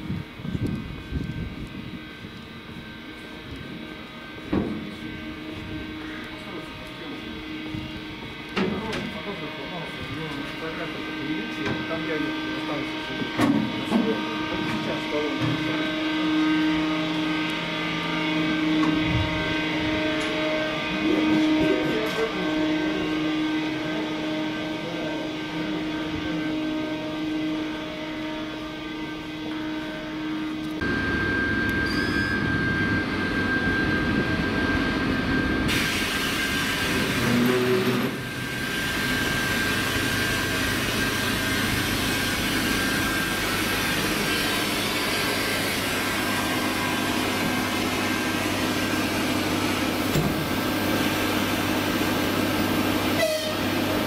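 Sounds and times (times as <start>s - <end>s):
diesel locomotive idling: 0.0s - 54.0s.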